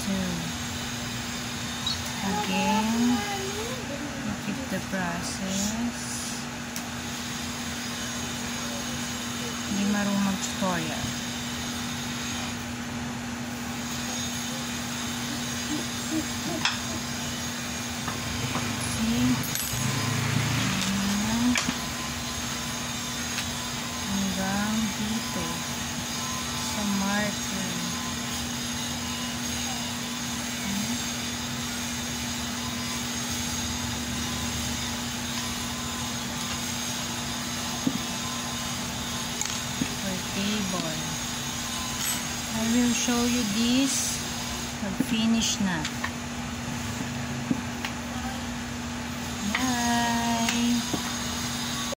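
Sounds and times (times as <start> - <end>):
low hum with hiss: 0.0 - 51.9.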